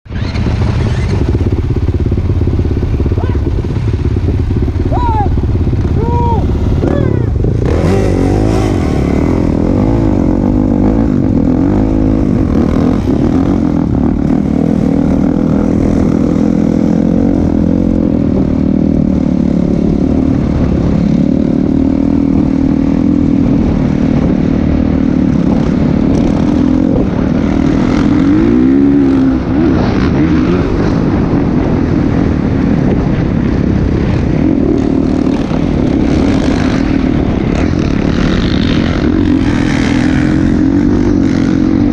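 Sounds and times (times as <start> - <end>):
motocross bike engine running: 0.1 - 41.9.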